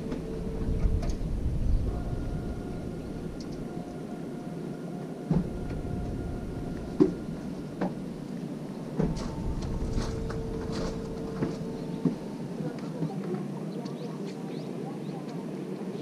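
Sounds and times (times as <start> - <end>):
faint hum: 0.0 - 16.0
steady rumble: 0.0 - 16.0.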